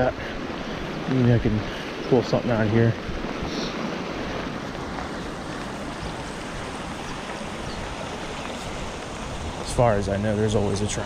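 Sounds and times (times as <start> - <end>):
creek water spilling over weir: 0.0 - 11.0.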